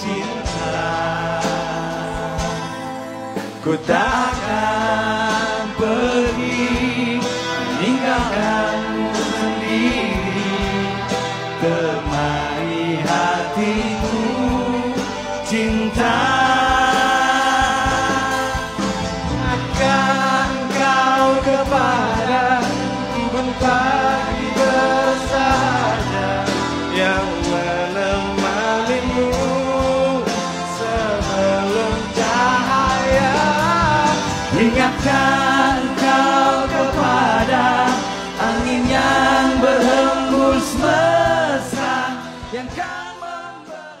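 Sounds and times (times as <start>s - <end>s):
band accompaniment: 0.0s - 44.0s
men singing pop ballad: 0.0s - 44.0s.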